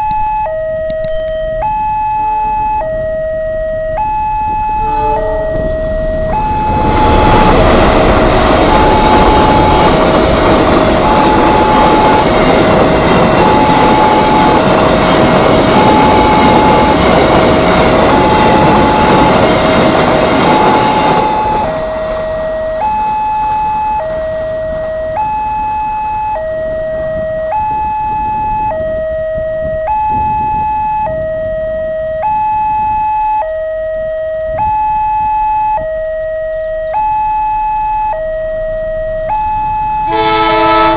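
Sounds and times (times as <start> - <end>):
level crossing warning alarm: 0.0 - 40.9
freight train passing: 0.2 - 40.9.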